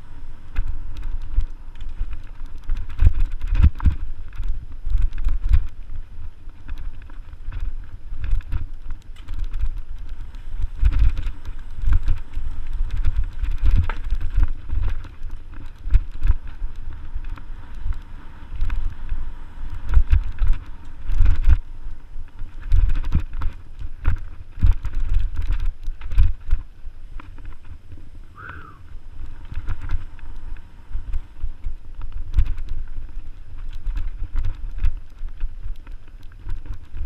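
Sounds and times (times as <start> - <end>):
bike rattles and knocks: 0.0 - 28.0, 29.2 - 37.0
wind rumble on microphone: 0.0 - 37.0.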